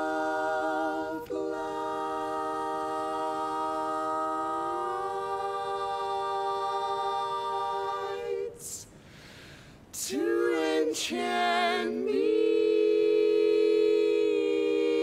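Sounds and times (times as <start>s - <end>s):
barbershop quartet singing a cappella: 0.0s - 8.9s, 9.9s - 15.0s.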